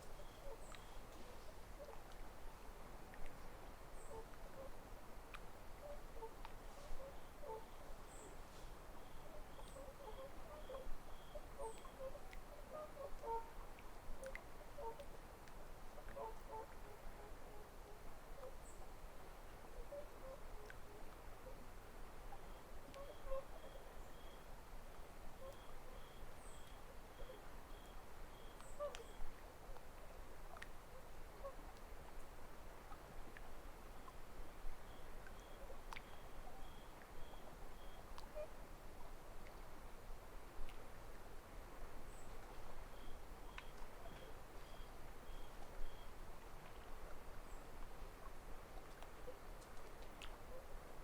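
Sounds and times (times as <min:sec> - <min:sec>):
faint water splashes: 0:00.0 - 0:51.0
ripples lapping faintly: 0:00.0 - 0:51.0.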